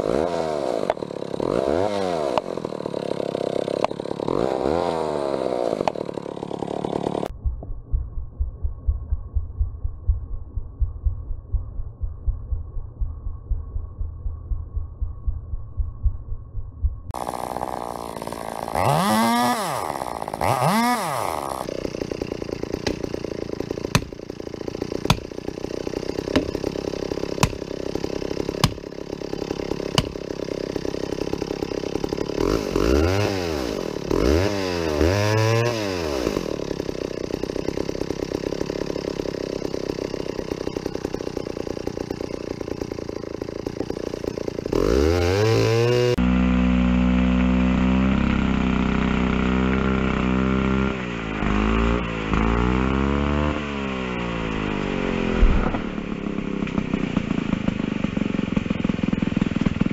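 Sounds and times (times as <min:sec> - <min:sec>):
chainsaw revving and cutting: 0:00.0 - 0:07.3, 0:17.1 - 0:59.9.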